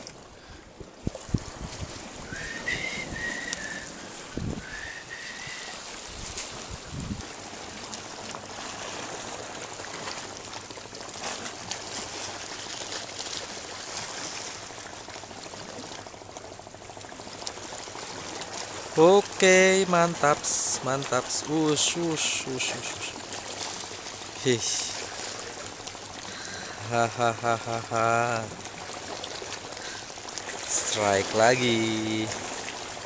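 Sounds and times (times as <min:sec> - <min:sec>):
waves lapping against rocks: 0:00.0 - 0:33.0.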